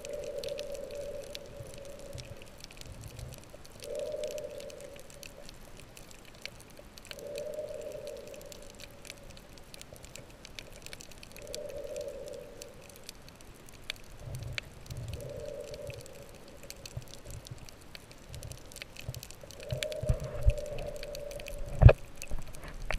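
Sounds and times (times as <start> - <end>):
crackling clicks: 0.0 - 22.9.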